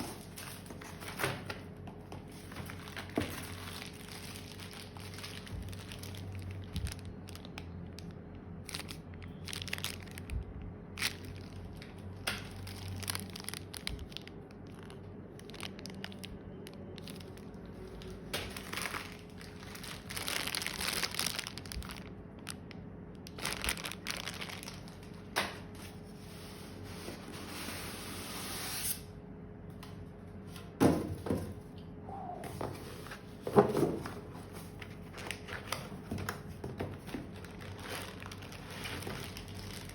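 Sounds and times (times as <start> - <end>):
packaging crinkling and tearing: 0.0 - 26.2, 32.9 - 39.9.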